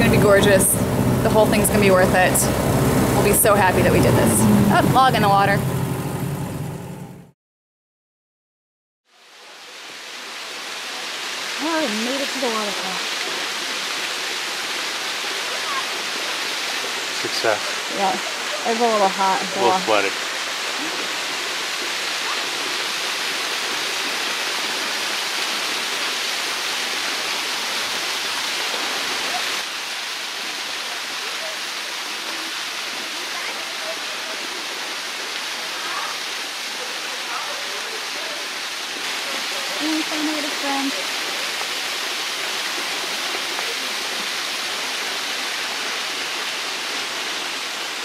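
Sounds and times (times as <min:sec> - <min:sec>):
waterfall rushing into a pool: 0:09.1 - 0:48.0.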